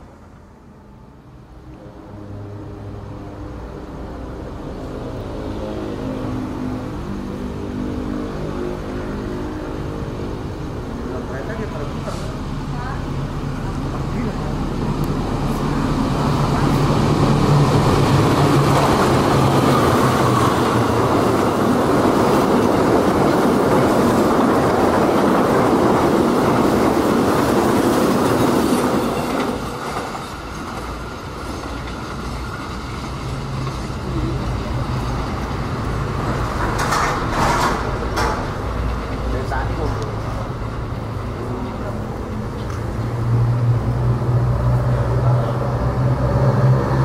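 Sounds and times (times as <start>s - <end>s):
diesel locomotive engine drone: 0.0s - 47.0s
train wheels on rails: 8.3s - 47.0s.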